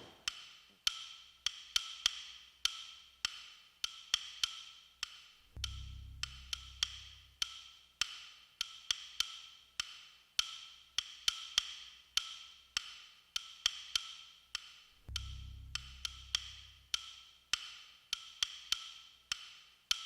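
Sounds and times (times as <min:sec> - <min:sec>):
wood block ticks with ringing tone: 0:00.2 - 0:20.0.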